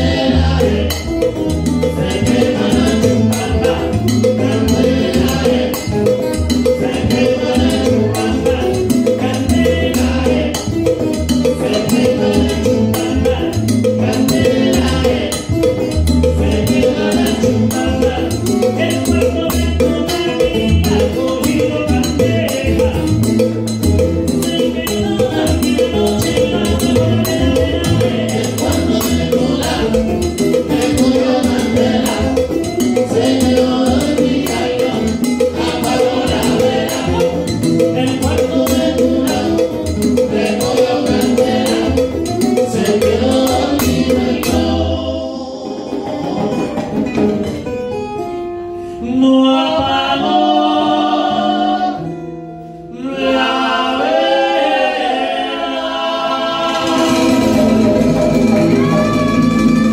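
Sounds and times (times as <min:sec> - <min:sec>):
voices singing in harmony: 0:00.0 - 0:23.2, 0:24.5 - 0:47.0, 0:49.0 - 0:52.2, 0:52.9 - 0:59.9
acoustic guitar: 0:00.0 - 0:59.9
conga drums: 0:00.0 - 0:59.9
electric upright bass: 0:00.0 - 0:59.9
live latin band playing: 0:00.0 - 0:59.9.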